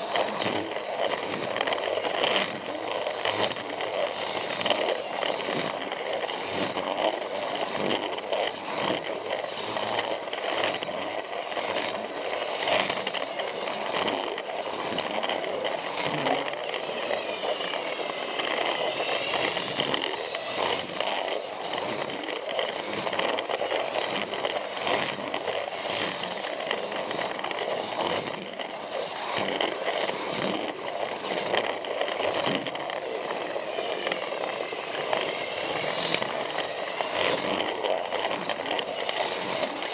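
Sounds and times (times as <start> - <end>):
toy train motor whirring: 0.0 - 39.9
wheels clicking over track joints: 0.0 - 39.9.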